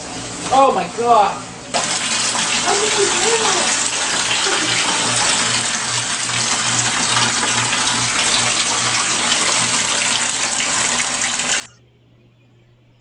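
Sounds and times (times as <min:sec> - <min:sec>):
shower water running into bathtub: 0:00.0 - 0:11.8.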